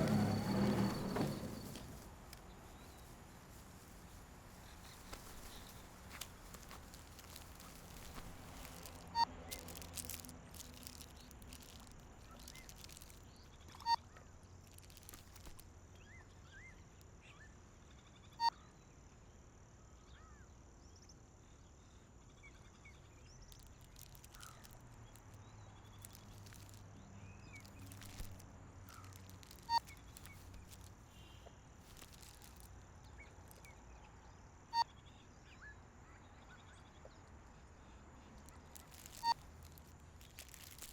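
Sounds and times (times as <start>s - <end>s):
faint bird chirps: 0.0s - 40.9s.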